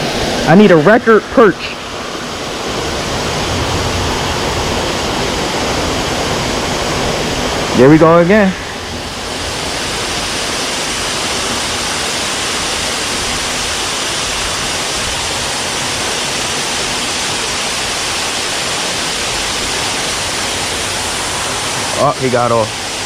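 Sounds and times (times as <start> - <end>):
waterfall pouring and splashing: 0.0 - 23.0.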